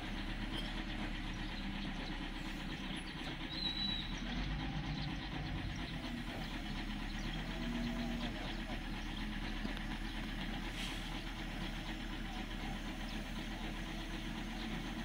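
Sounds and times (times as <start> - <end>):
heavy equipment diesel engines: 0.0 - 15.0.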